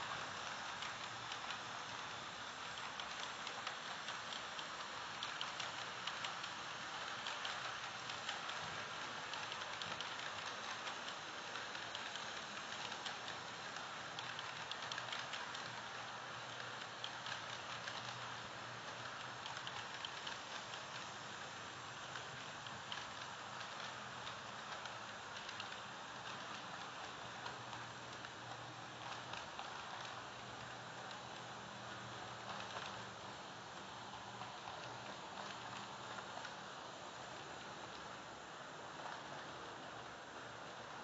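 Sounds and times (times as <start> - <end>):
model trains running: 0.0 - 41.0.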